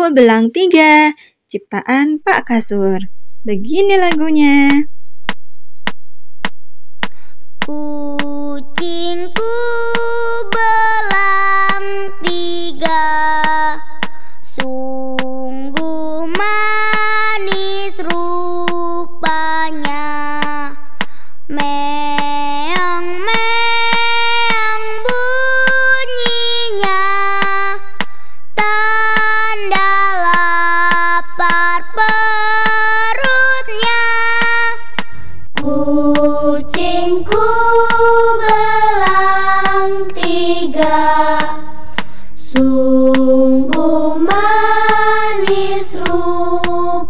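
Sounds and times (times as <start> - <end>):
backing track with clicking beat: 4.0 - 47.0
child singing: 7.6 - 47.0.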